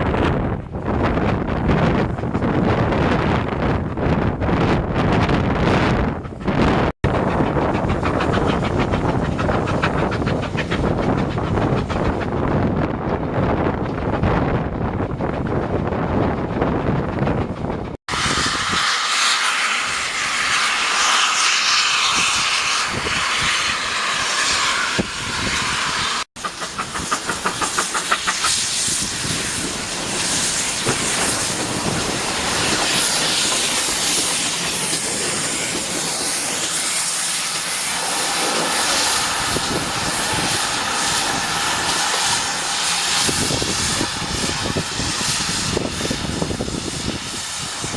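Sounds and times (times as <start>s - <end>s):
train running noise: 0.0s - 47.9s
locomotive exhaust beats: 1.8s - 47.9s
steam locomotive hissing: 5.7s - 14.1s, 15.9s - 47.9s.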